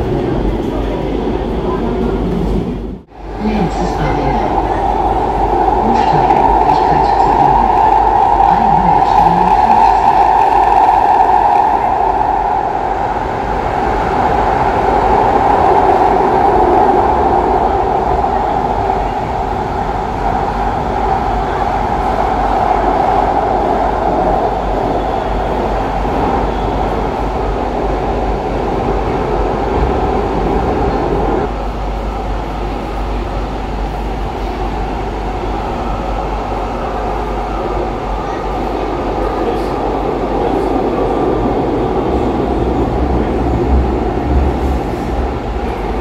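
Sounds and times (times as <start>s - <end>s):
train interior rumble: 0.0s - 46.0s.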